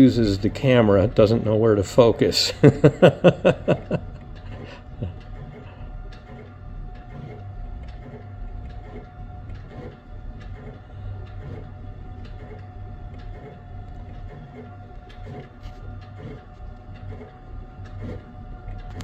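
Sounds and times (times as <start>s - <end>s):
faint printer ticks: 0.0s - 19.0s
printer humming: 0.0s - 19.0s
printer whine: 0.0s - 19.0s.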